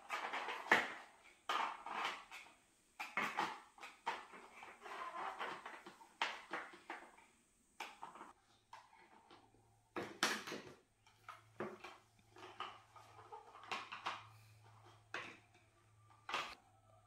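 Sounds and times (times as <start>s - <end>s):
plastic toy dishes clattering: 0.0s - 16.6s.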